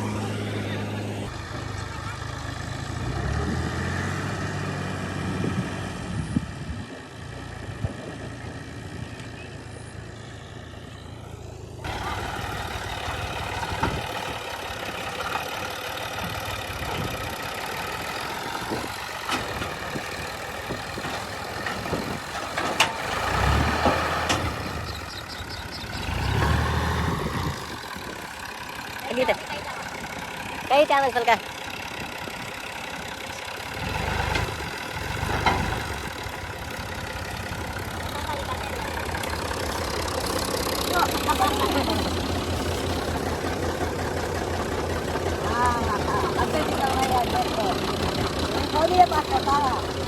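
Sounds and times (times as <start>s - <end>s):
combine harvester engine running: 0.0s - 50.0s.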